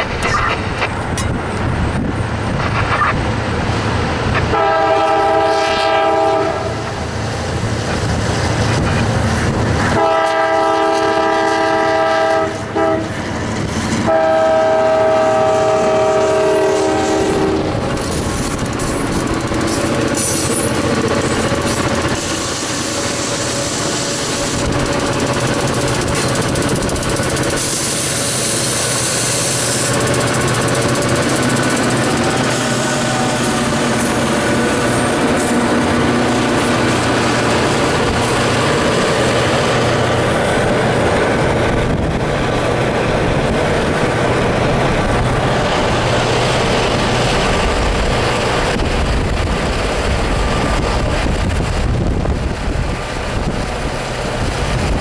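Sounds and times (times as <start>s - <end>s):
road and wind noise: 0.0s - 5.8s, 6.4s - 10.1s, 12.4s - 14.2s, 15.1s - 30.3s, 31.0s - 55.0s
diesel locomotives droning: 0.0s - 55.0s.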